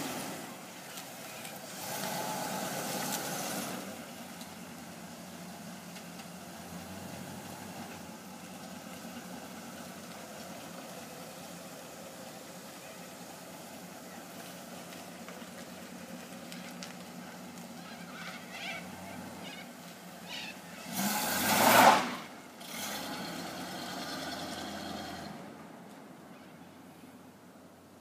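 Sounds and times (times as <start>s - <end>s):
car engine running at low speed: 0.0s - 26.1s.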